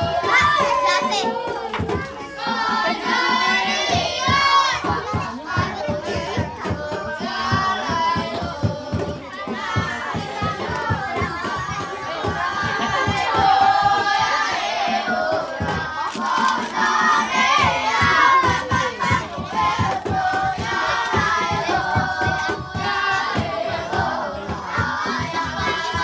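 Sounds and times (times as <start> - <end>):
quick drum beats: 0.0 - 26.0
voices singing together: 0.0 - 26.0.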